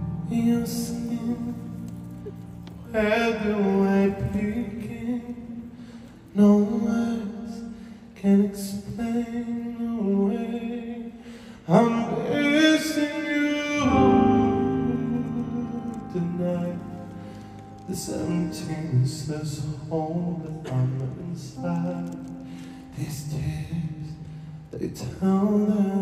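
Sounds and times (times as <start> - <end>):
person singing a slow ballad: 0.0 - 26.0
soft sustained backing music: 0.0 - 26.0.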